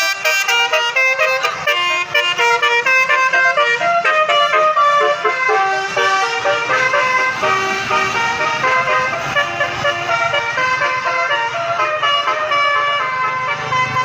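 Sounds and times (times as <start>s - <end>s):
bus air horn melody: 0.0s - 14.0s.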